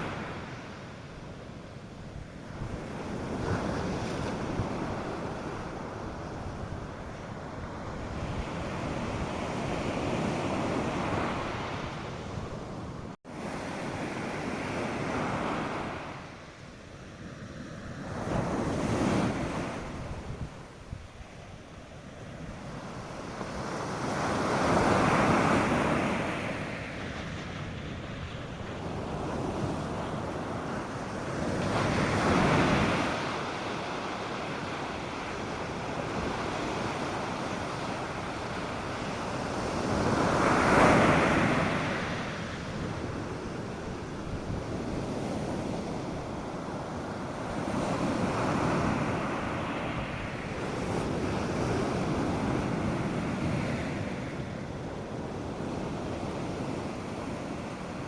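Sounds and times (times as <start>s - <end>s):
wind on microphone: 0.0s - 16.4s, 17.0s - 58.0s
waves breaking on beach: 0.0s - 58.0s.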